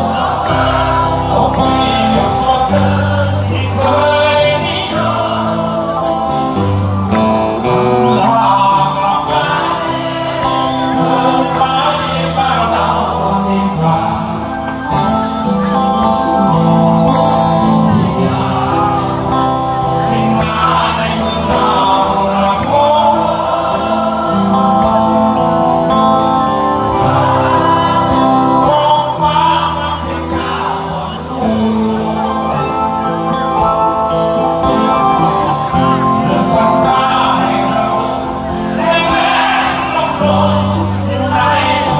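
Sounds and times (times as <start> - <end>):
acoustic guitar: 0.0 - 41.9
keyboard: 0.0 - 41.9
person singing: 0.0 - 41.9.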